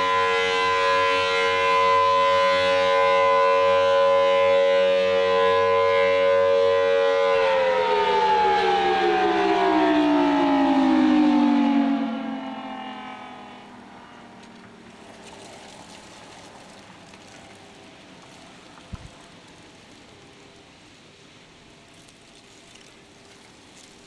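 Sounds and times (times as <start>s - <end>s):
civil defense siren: 0.0s - 20.2s.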